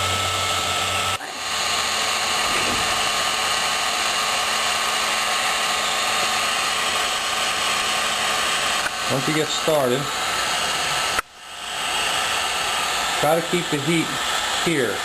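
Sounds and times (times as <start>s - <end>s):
hot air gun blowing: 0.0s - 15.0s.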